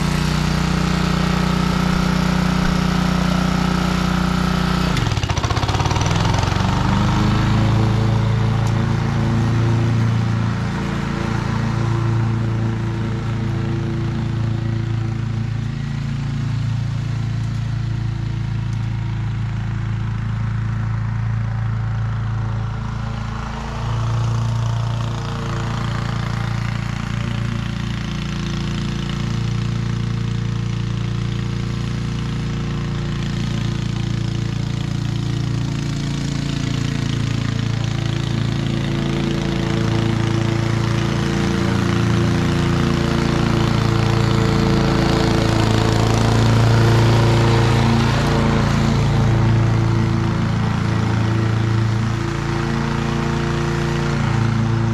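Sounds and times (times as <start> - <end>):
lawn mower running: 0.0 - 54.9.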